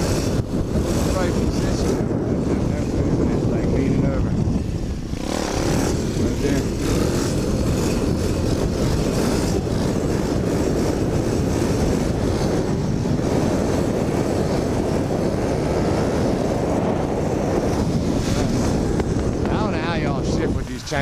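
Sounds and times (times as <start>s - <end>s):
pit bike engine: 0.0s - 21.0s
wind rumble on microphone: 0.0s - 21.0s.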